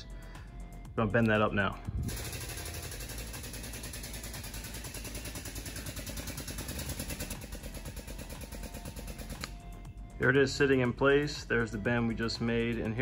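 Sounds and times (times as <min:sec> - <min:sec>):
hydraulic pump running: 0:01.4 - 0:11.8.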